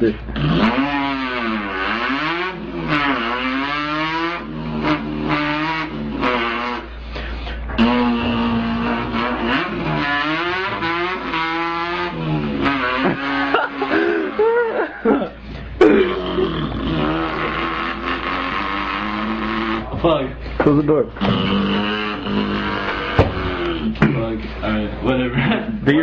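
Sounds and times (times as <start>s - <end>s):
man imitating revving engine: 0.0s - 7.0s, 7.7s - 20.3s, 21.1s - 24.3s.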